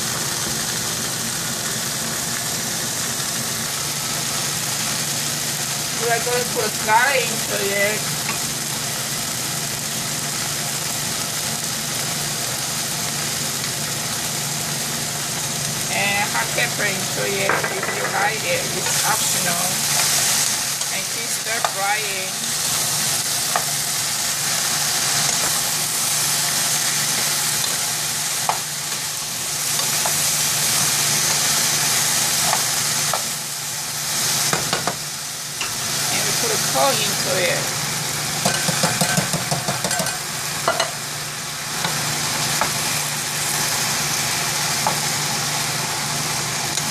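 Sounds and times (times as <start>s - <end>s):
vegetables sizzling in hot oil: 0.0s - 46.9s.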